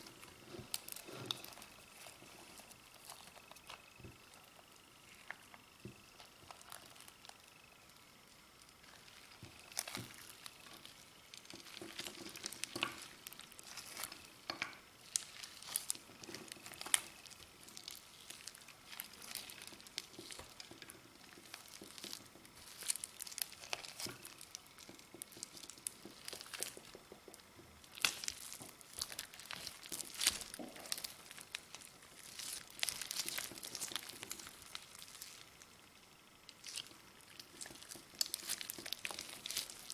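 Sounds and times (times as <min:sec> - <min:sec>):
slime clicking and crackling: 0:00.0 - 0:39.9.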